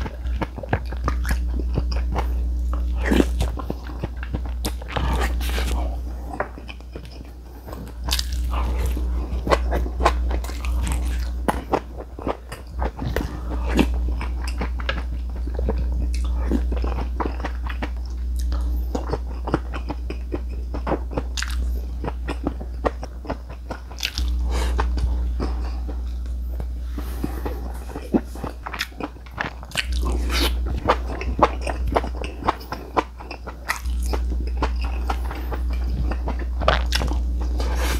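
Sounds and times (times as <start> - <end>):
crunchy chewing: 0.0 - 37.9
steady low hum: 0.0 - 37.9.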